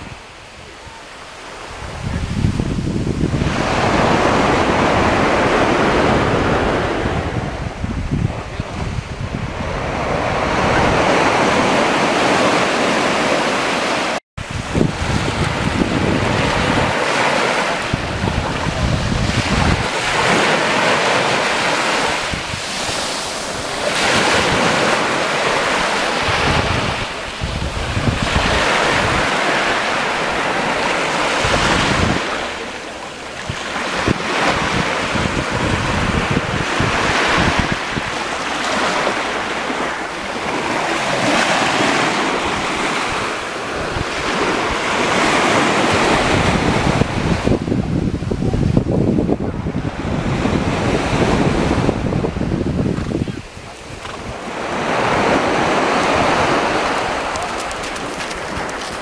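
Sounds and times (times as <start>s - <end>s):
waves breaking on beach: 0.0s - 59.0s
wind buffeting microphone: 0.0s - 59.0s.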